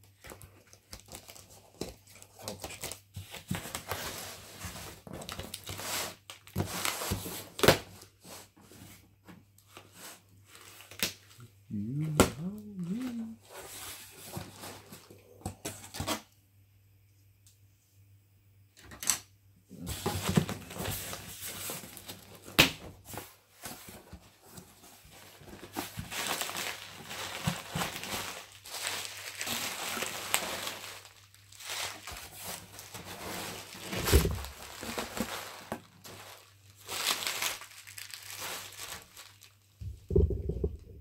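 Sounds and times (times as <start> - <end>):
bubble wrap crinkling: 0.0 - 8.8, 9.6 - 15.1, 19.8 - 40.8.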